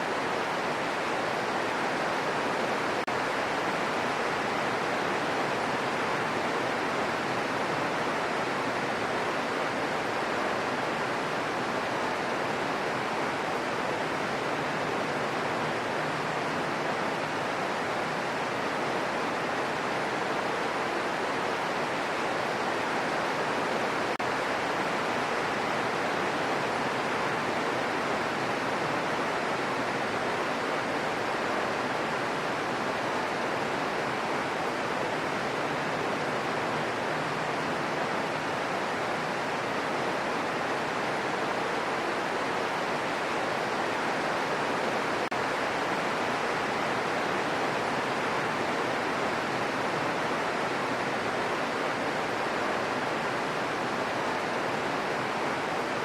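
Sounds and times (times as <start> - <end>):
steady rain on forest: 0.0 - 56.0.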